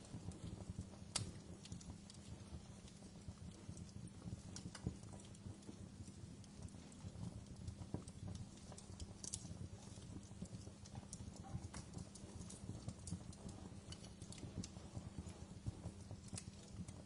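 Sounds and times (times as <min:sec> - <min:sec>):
fire crackles and pops: 0:00.0 - 0:17.0
low rumble of fire: 0:00.0 - 0:17.0.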